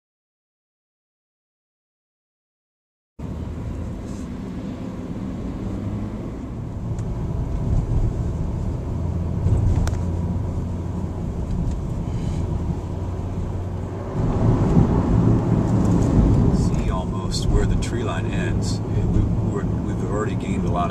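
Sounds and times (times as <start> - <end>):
car engine hum: 3.2 - 20.9
road noise inside car: 3.2 - 20.9.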